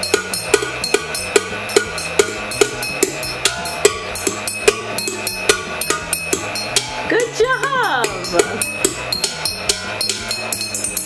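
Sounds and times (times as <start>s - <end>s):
held synth tones: 0.0s - 11.0s
steady drum beat: 0.0s - 11.0s.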